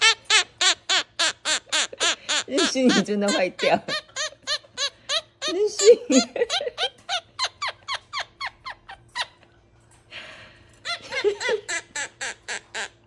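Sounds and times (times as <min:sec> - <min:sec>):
parrot laughing squeaky notes: 0:00.0 - 0:09.4, 0:10.8 - 0:13.0.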